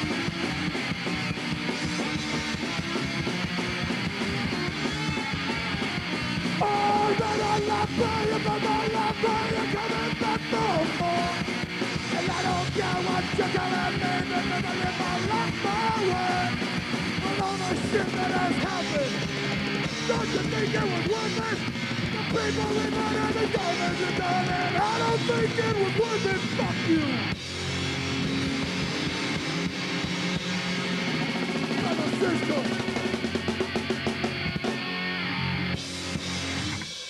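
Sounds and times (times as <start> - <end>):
bending guitar notes: 0.0 - 36.8
punk rock band playing: 0.0 - 37.0.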